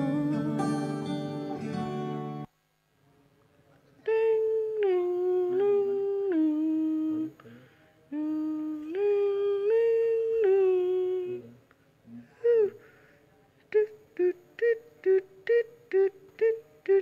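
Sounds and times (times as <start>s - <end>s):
person humming: 0.0s - 2.4s, 4.1s - 13.0s, 13.7s - 17.0s.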